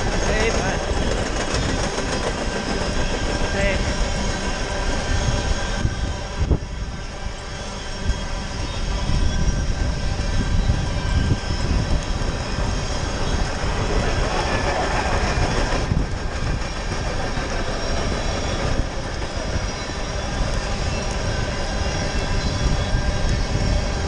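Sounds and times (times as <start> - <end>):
train cars clattering: 0.0 - 6.3, 7.4 - 23.1
freight train rumbling past: 0.0 - 24.0
wind rushing over microphone: 0.0 - 24.0.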